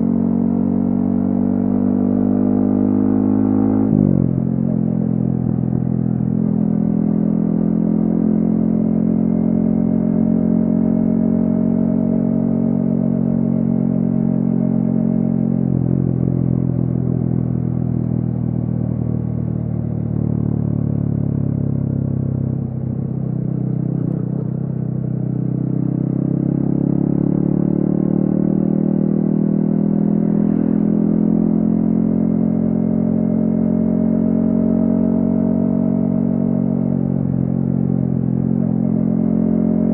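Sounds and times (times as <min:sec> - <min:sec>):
motorcycle engine revving: 0:00.0 - 0:20.0, 0:21.7 - 0:39.9.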